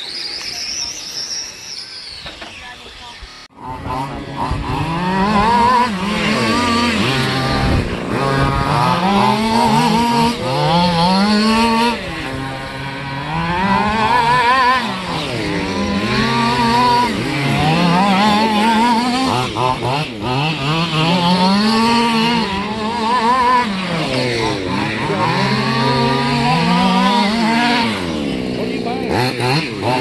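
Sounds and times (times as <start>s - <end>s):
radio-controlled car engines buzzing: 0.0s - 30.0s.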